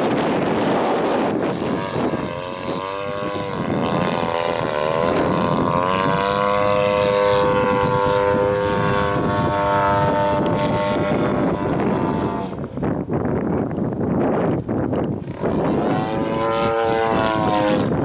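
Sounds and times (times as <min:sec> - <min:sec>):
model aircraft engine and propeller: 0:00.0 - 0:18.0
wind rumble on microphone: 0:00.0 - 0:18.0.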